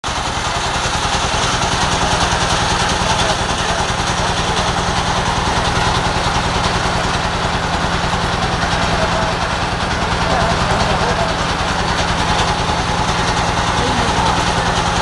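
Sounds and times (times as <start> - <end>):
boat engine throbbing: 0.0 - 15.0.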